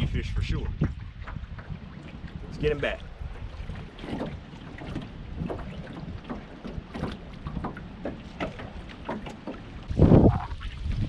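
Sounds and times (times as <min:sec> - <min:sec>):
water sloshing against boat hull: 0:00.0 - 0:11.0
wind rumble on microphone: 0:00.0 - 0:11.0.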